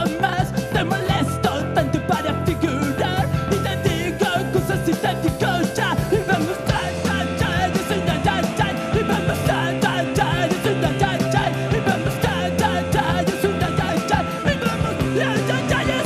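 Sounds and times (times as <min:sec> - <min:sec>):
bass guitar: 0:00.0 - 0:16.0
drums: 0:00.0 - 0:16.0
electric guitars: 0:00.0 - 0:16.0
person singing: 0:00.0 - 0:16.0.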